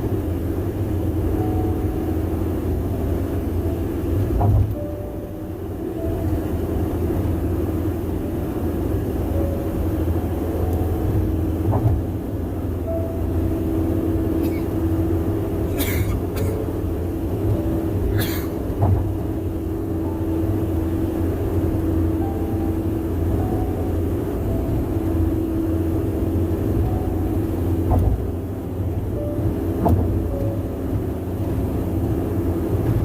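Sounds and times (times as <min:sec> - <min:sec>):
tyre and road noise: 0:06.3 - 0:33.0.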